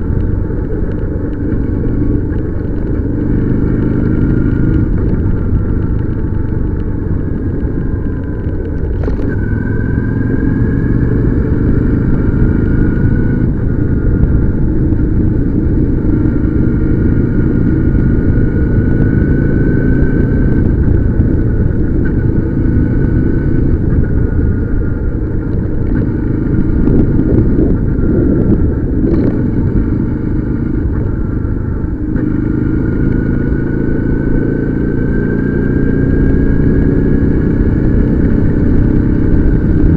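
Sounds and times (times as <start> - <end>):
motorcycle engine and wind: 0.0 - 39.9.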